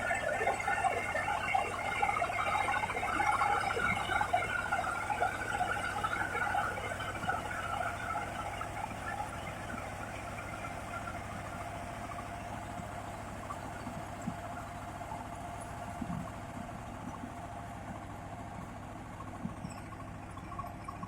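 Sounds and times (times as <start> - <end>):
combine harvester engine rumble: 0.0 - 21.0
steady machine whine: 0.0 - 21.0.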